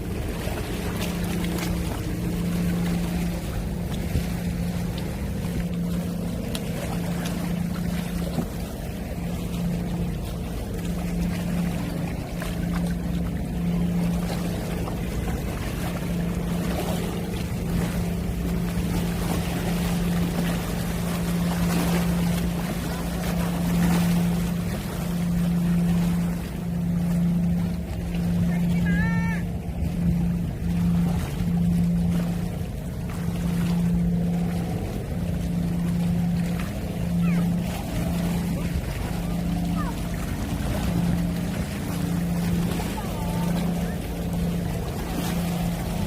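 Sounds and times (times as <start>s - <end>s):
boat engine humming: 0.0s - 46.0s
water and waves washing: 0.0s - 46.0s.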